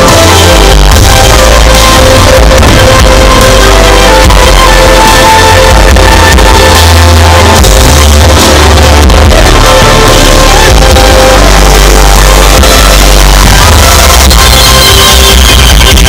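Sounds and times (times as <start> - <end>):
loud electronic rock music: 0.0 - 16.0.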